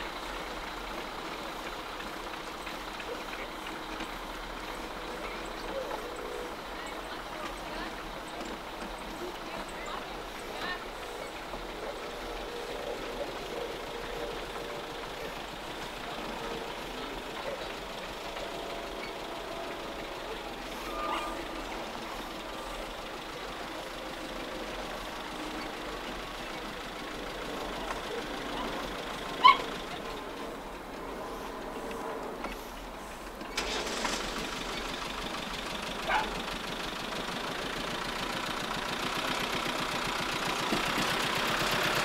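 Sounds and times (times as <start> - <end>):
distant engines running: 0.0 - 42.0.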